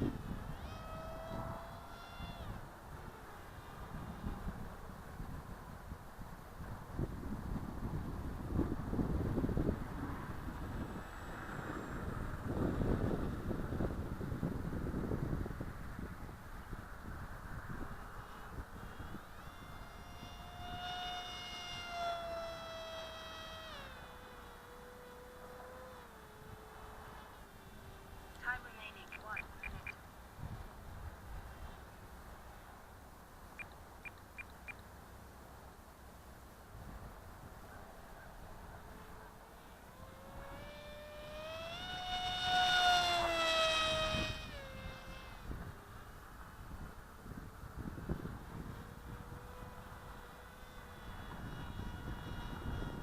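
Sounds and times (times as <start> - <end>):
wind rumble on microphone: 0.0 - 31.9, 36.7 - 53.0
model aircraft propeller whine: 0.0 - 53.0.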